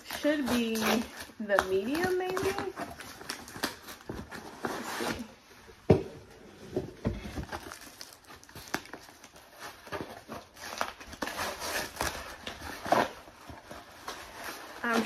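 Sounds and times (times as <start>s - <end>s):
paper rustling and crinkling: 0.0s - 5.4s, 6.6s - 15.0s.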